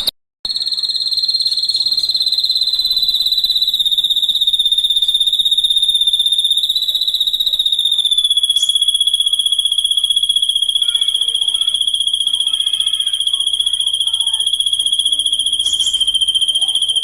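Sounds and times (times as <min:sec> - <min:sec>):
high pulsing insect-like trill: 0:00.5 - 0:17.0.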